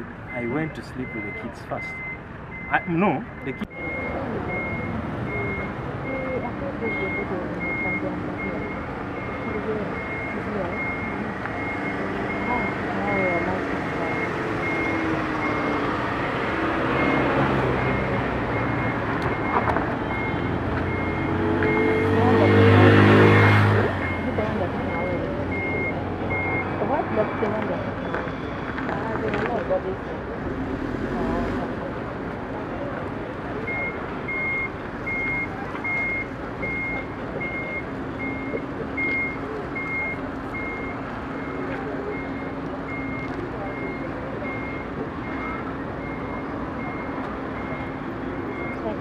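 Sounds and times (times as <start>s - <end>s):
steady background noise: 0.0s - 49.0s
reversing alarm beeping: 0.3s - 15.9s, 16.8s - 28.8s, 33.7s - 49.0s.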